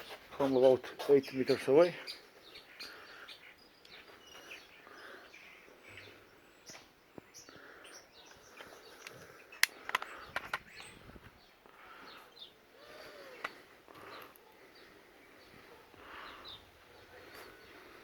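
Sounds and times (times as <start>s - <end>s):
faint bird chirps: 1.5s - 18.0s.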